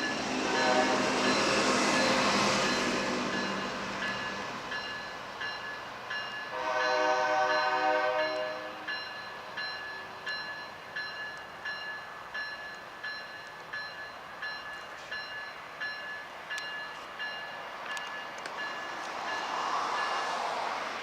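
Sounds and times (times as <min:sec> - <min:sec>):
locomotive bell ringing: 0:00.0 - 0:20.2
train rolling: 0:00.0 - 0:21.0.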